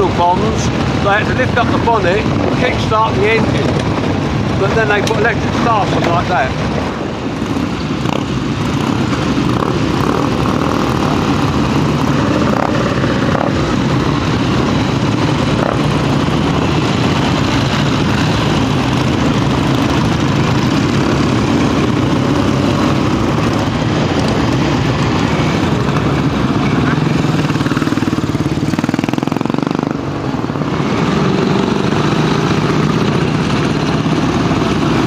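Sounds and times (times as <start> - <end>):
motorcycle engine drone: 0.0 - 35.0.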